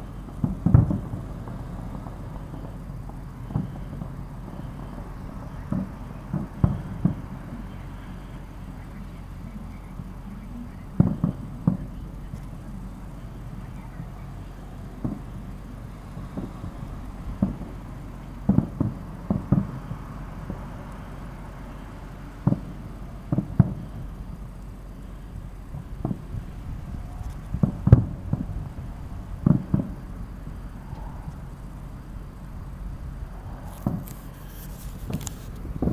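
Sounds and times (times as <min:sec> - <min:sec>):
distant fireworks booming: 0:00.0 - 0:35.9
low steady background hum: 0:00.0 - 0:35.9.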